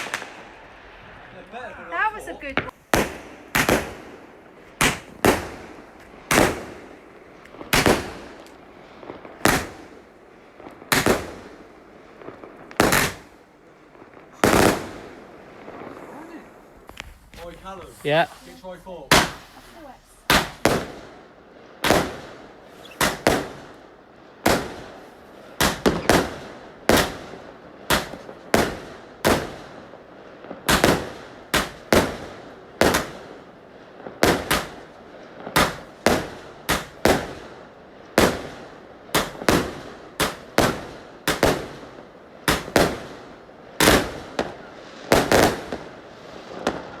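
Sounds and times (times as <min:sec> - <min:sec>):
fireworks exploding: 0:00.0 - 0:47.0.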